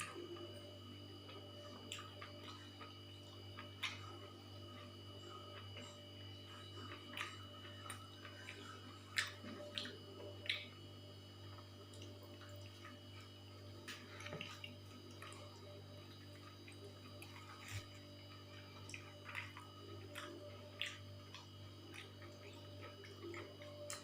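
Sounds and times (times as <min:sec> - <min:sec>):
low electrical hum: 0:00.0 - 0:24.0
wet chewing sounds: 0:00.0 - 0:24.0.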